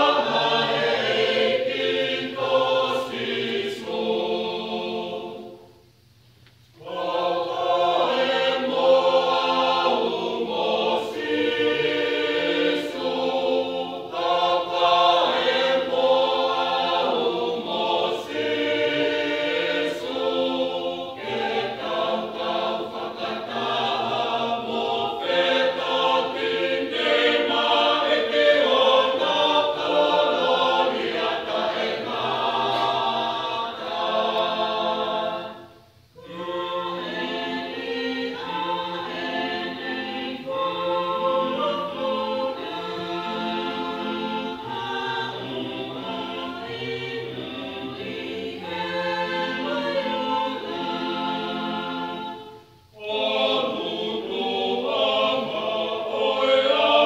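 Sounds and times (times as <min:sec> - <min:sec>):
choir singing in harmony: 0:00.0 - 0:05.9, 0:06.7 - 0:57.0.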